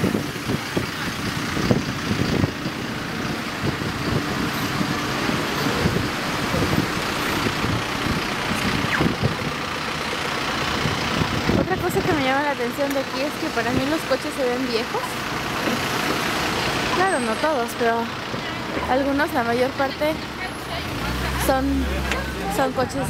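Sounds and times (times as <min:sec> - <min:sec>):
bus engine running: 0:00.0 - 0:23.0
cars passing: 0:00.0 - 0:23.0.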